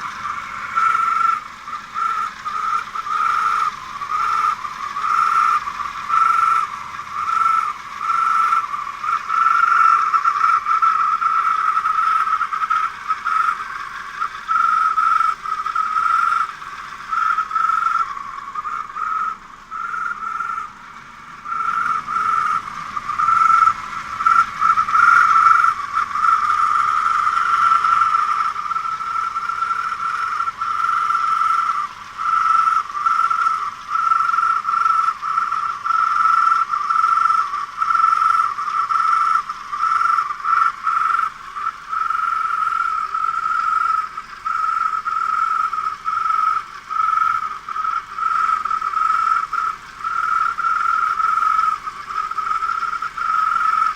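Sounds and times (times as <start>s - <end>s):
drive belt pulley squealing: 0.0s - 53.9s.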